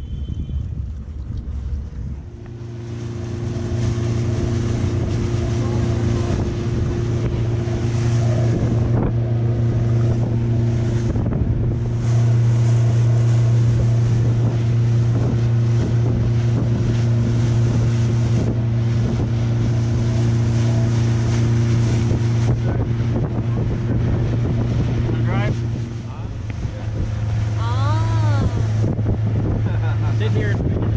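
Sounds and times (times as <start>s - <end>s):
motorboat engine hum: 0.0s - 30.9s
wind buffeting microphone: 0.0s - 30.9s.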